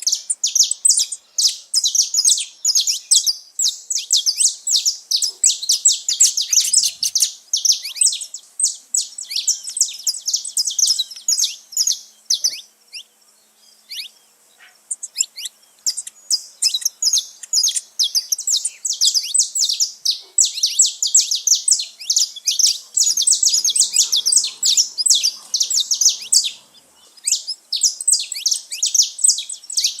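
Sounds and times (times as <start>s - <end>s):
finches singing and chirping: 0.0s - 30.0s.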